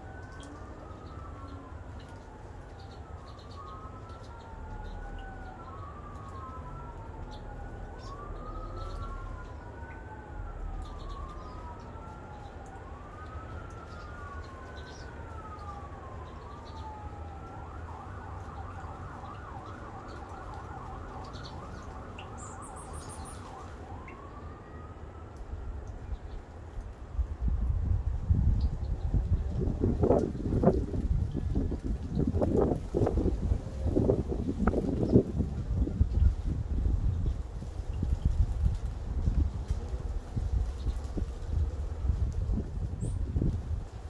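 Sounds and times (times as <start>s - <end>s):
emergency vehicle siren wailing: 0.0s - 44.0s.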